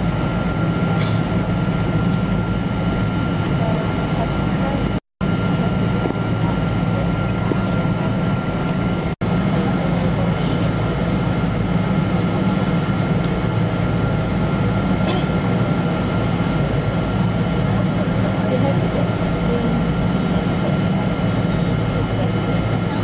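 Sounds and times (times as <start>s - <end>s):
jet engine hum: 0.0s - 23.0s
thin steady whine: 0.0s - 23.0s.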